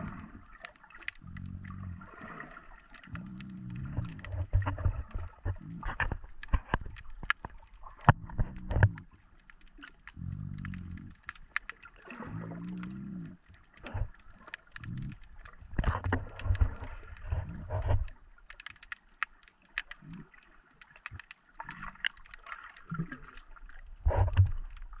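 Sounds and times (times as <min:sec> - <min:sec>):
underwater clicks and crackles: 0:00.0 - 0:25.0.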